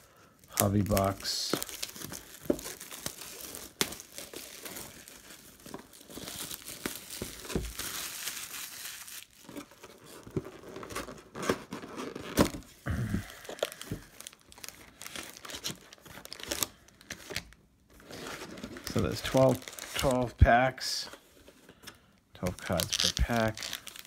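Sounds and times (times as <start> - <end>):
plastic wrap crinkling and tearing: 0.0 - 20.4, 22.4 - 24.0.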